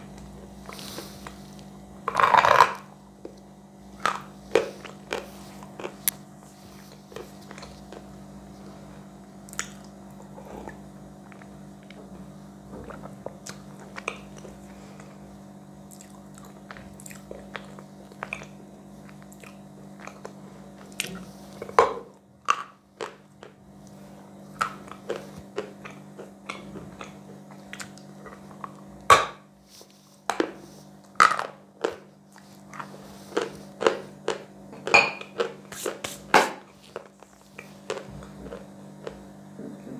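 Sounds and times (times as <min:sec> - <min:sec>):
faint low hum: 0:00.0 - 0:39.9
person chewing chalk: 0:00.1 - 0:08.2, 0:09.4 - 0:12.0, 0:12.8 - 0:15.2, 0:15.8 - 0:29.0, 0:29.6 - 0:39.3.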